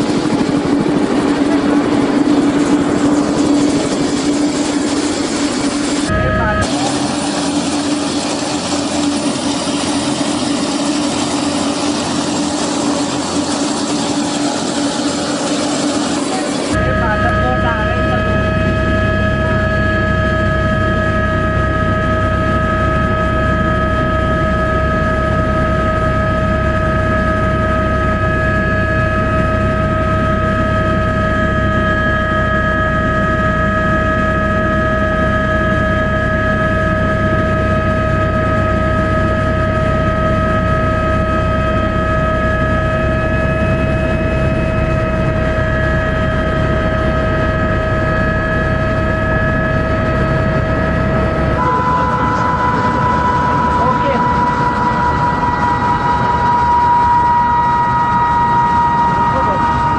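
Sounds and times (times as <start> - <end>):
helicopter rotor and engine rumble: 0.0 - 59.9
high whine: 0.0 - 59.9.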